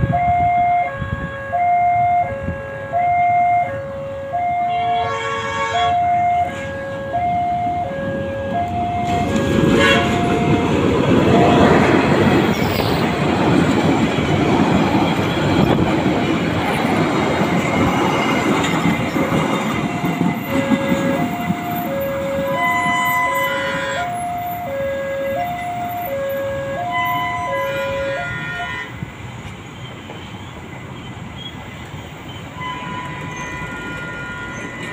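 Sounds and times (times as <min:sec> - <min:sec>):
crossing alarm beeping: 0:00.0 - 0:29.0, 0:29.7 - 0:34.9
freight train rumbling over rails: 0:03.7 - 0:34.9.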